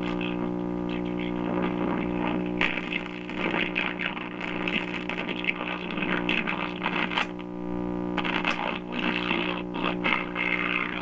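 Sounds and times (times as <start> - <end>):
am radio broadcast: 0.0 - 11.0
radio static: 0.0 - 11.0
steady hum: 0.0 - 11.0.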